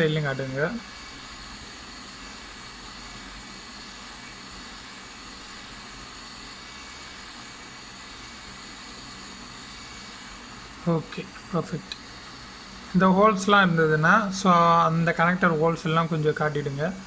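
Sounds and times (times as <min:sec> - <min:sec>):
hot-air gun blowing: 0:00.0 - 0:17.0.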